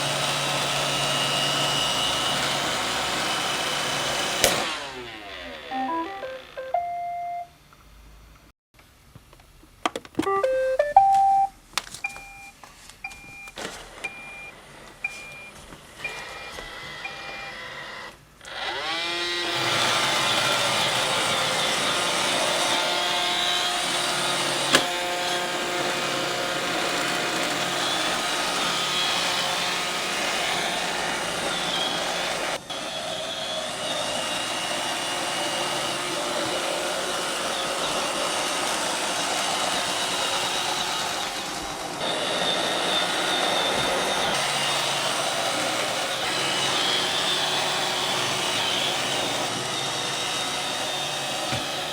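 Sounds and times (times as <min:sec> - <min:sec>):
robot vacuum whirring: 0:00.0 - 0:06.8, 0:13.6 - 0:51.9.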